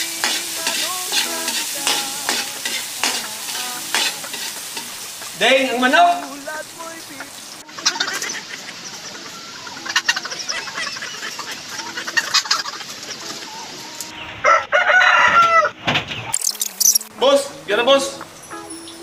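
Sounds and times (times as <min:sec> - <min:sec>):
chickens clucking and squawking: 0:00.0 - 0:15.8.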